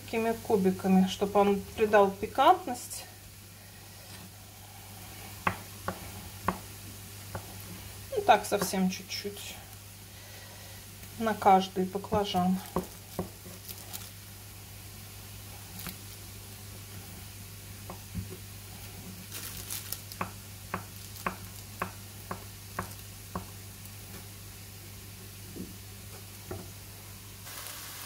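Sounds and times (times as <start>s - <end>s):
pan sizzling: 0.0s - 28.0s.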